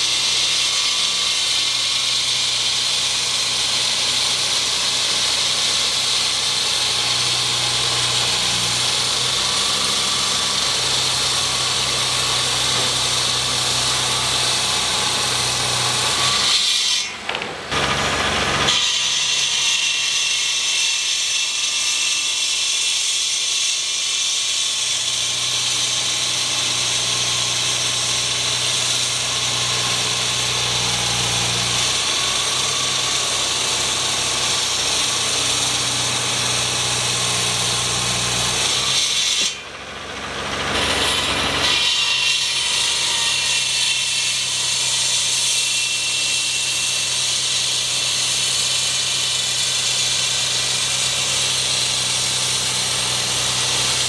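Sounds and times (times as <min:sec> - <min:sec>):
power tool running: 0:00.0 - 0:54.0.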